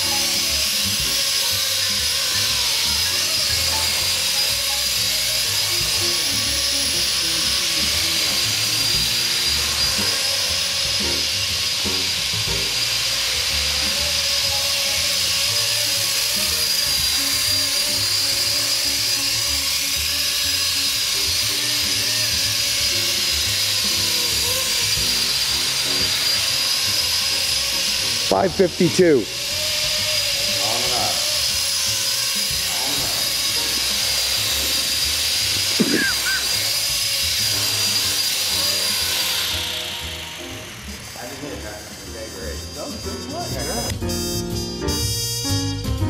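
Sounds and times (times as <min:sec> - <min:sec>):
rotor blades rushing: 0:00.0 - 0:44.7
rc helicopter motor whine: 0:00.0 - 0:46.0.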